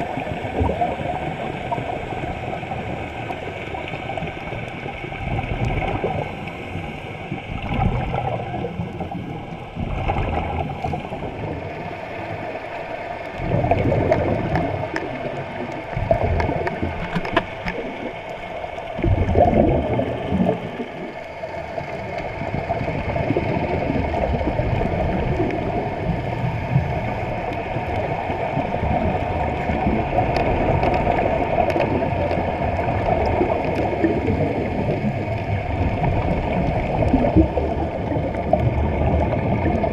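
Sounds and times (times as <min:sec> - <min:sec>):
divers exhaling bubbles: 0:00.0 - 0:39.9
underwater water rush: 0:00.0 - 0:39.9.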